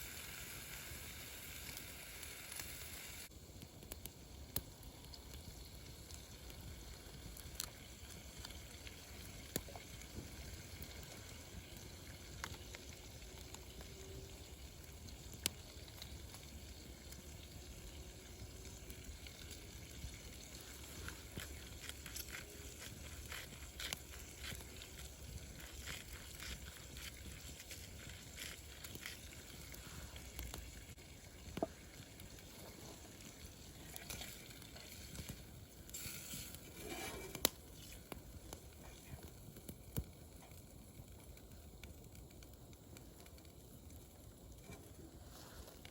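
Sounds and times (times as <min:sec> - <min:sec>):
fire crackling and popping: 0:00.0 - 0:45.9
wood fire hissing: 0:00.0 - 0:45.9.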